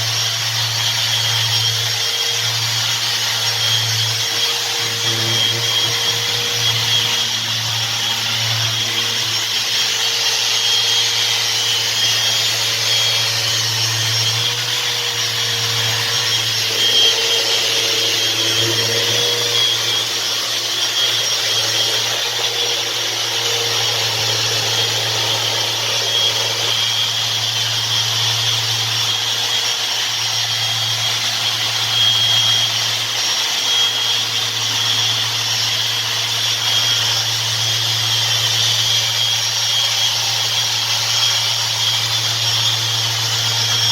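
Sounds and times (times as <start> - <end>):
electric sander on stone: 0.0 - 43.9.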